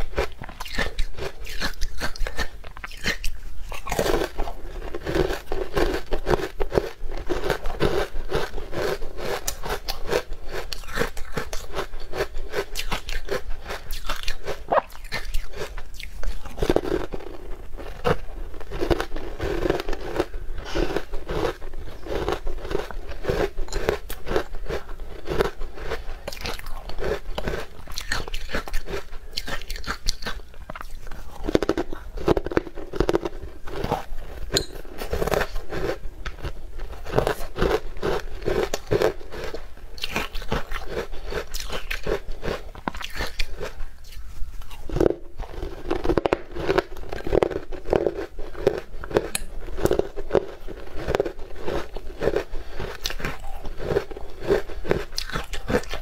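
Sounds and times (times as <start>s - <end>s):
chewing and crunching sweet: 0.0s - 56.0s.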